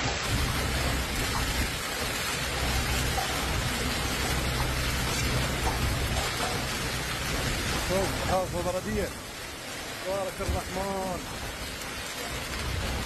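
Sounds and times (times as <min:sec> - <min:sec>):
hail clattering on road and cars: 0:00.0 - 0:13.0.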